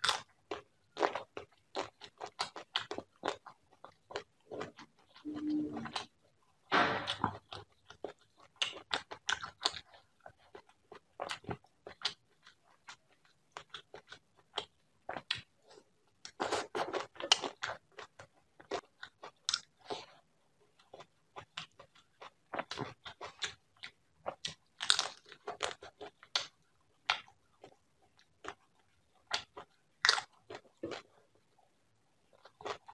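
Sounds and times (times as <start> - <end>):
person chewing food: 0.0 - 32.9.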